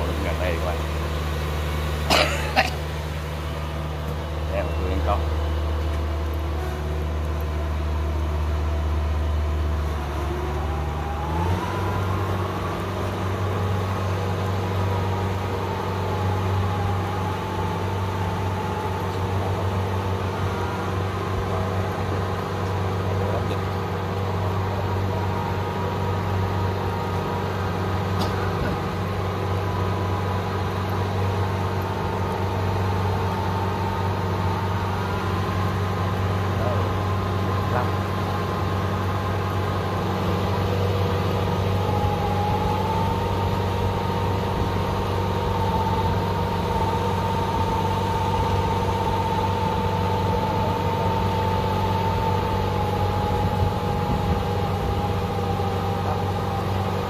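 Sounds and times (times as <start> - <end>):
diesel engine running: 0.0 - 57.0
high engine whine: 0.0 - 57.0.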